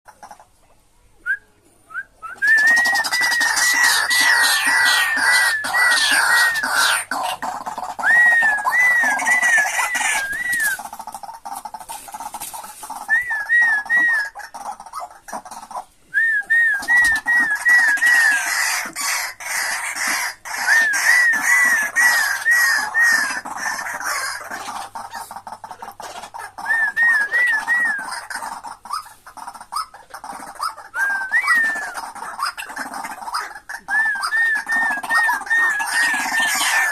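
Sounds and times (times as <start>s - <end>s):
waterhen calling harshly: 2.4s - 36.9s.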